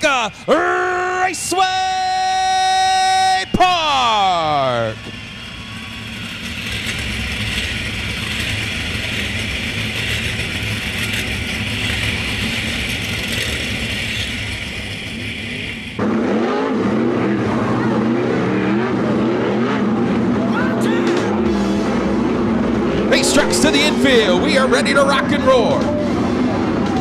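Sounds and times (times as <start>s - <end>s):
race car engines revving: 0.0s - 27.0s
race car engines rumbling: 0.0s - 27.0s.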